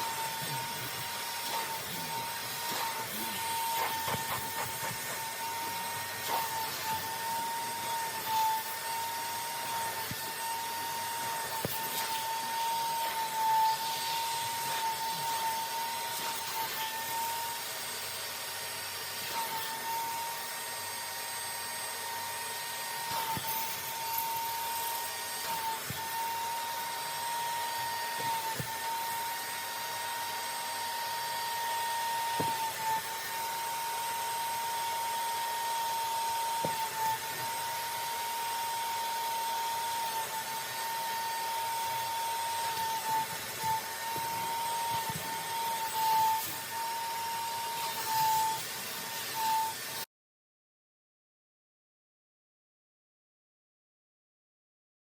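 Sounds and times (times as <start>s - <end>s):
carpet extractor whining: 0.0s - 50.0s.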